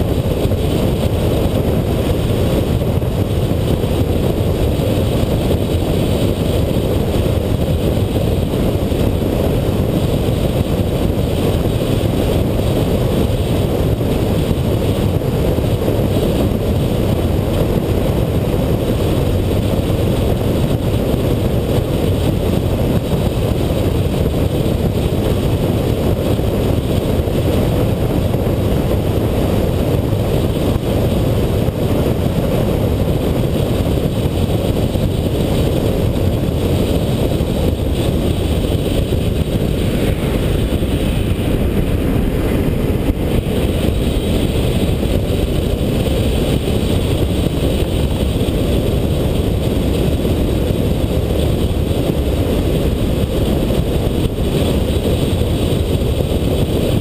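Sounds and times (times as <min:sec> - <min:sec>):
car road and wind noise: 0:00.0 - 0:57.0.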